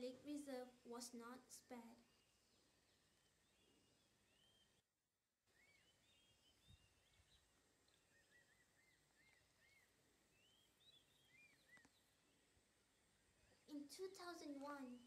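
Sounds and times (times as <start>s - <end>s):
birds chirping: 0.0s - 4.8s, 5.5s - 15.0s
low outdoor hiss: 0.0s - 4.8s, 5.5s - 15.0s.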